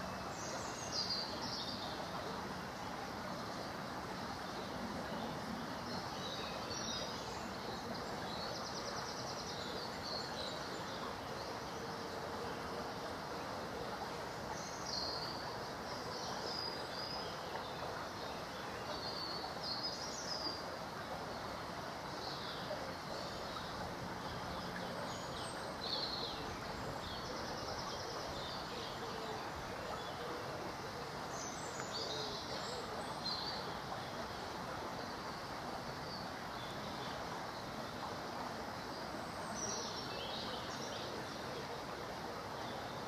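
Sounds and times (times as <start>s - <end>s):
flowing stream water: 0.0s - 43.0s.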